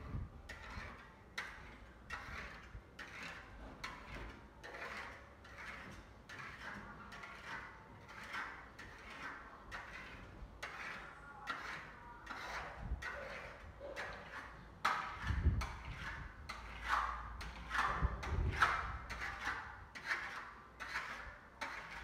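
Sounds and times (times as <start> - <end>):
plaster knife scraping plaster: 0.0 - 22.0.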